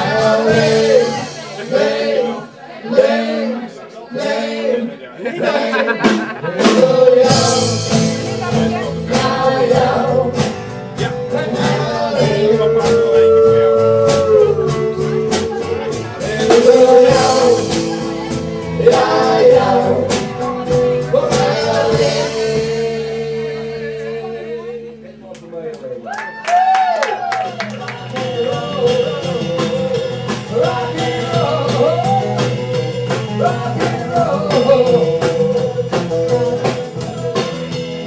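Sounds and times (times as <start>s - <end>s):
person singing: 0.0s - 2.5s, 5.4s - 25.2s, 27.4s - 38.0s
live rock band playing: 0.0s - 2.6s, 5.4s - 26.0s, 26.7s - 38.0s.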